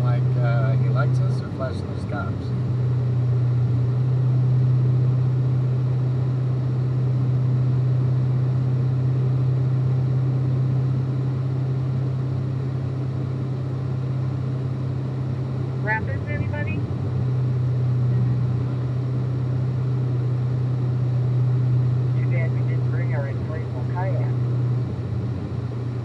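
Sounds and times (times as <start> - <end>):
car engine drone: 0.0 - 26.0.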